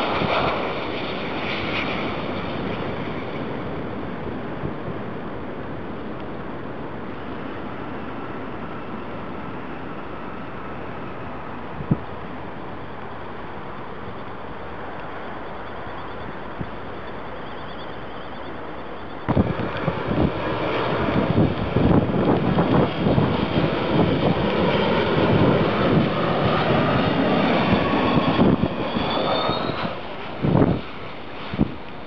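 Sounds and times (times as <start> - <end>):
wind buffeting microphone: 0.0 - 17.8, 19.2 - 32.0
high engine whine: 0.0 - 32.0
jet engines rumbling: 0.0 - 32.0.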